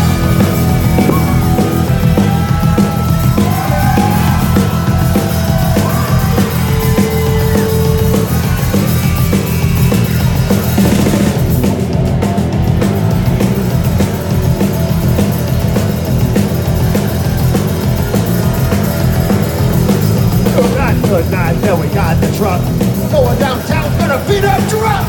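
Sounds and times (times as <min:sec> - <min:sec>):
bass guitar: 0:00.0 - 0:25.0
distorted electric guitar: 0:00.0 - 0:25.0
driving drum kit: 0:00.0 - 0:25.0.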